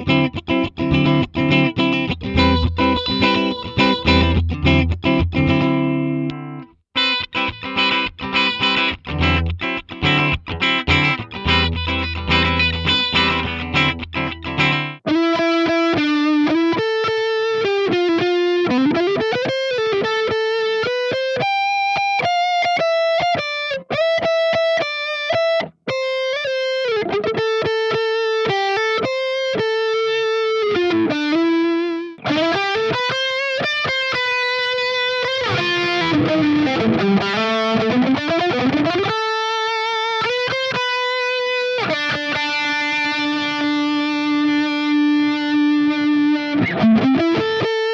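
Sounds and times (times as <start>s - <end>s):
electric guitar through an amp: 0.0s - 47.9s.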